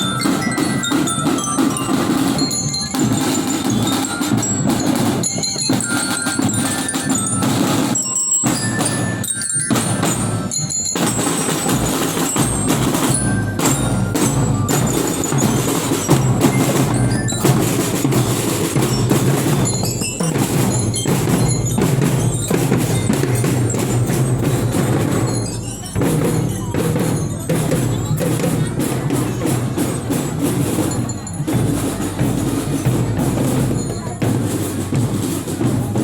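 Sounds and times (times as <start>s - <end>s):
marching drums beating: 0.0s - 36.0s
marching glockenspiel notes: 0.0s - 36.0s.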